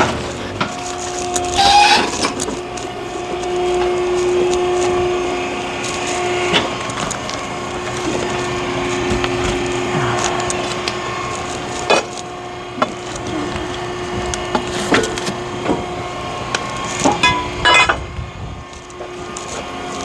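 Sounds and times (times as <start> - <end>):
hydraulic log splitter humming: 0.0 - 20.0.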